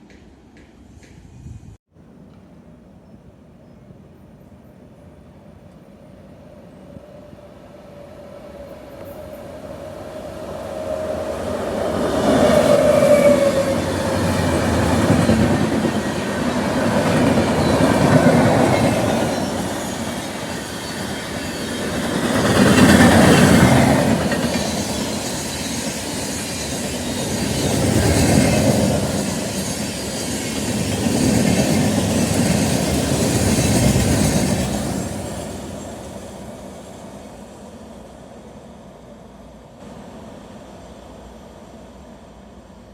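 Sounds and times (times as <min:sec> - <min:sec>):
train rumbling past: 0:00.0 - 0:42.9.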